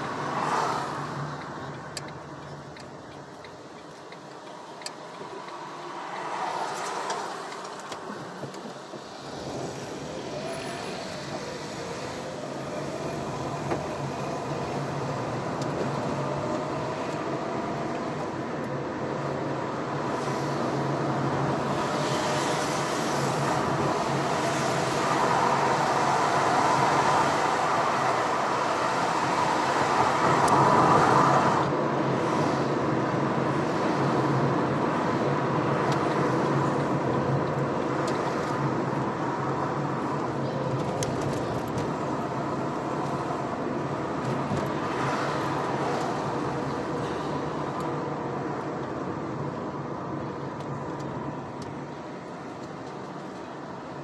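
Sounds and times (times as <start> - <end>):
car engine hum and road noise: 0.0 - 54.0.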